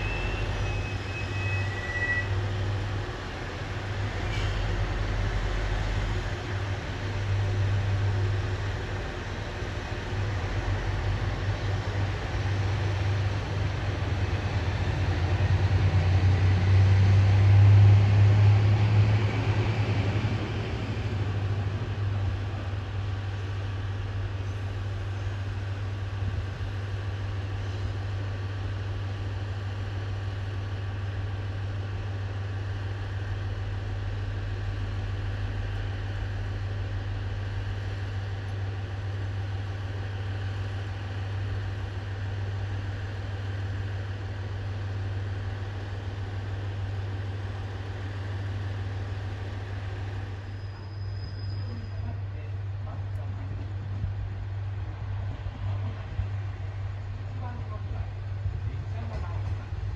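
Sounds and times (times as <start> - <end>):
diesel railcar engine humming: 0.0 - 59.9.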